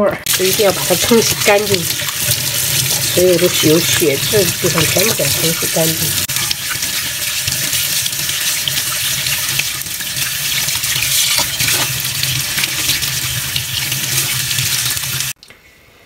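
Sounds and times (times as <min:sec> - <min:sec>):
tap water running into sink: 0:00.3 - 0:15.4.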